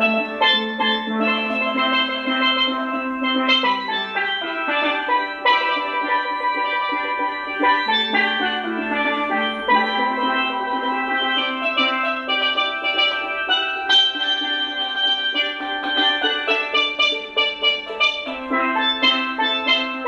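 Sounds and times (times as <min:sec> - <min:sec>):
steel pan melody: 0:00.0 - 0:20.0.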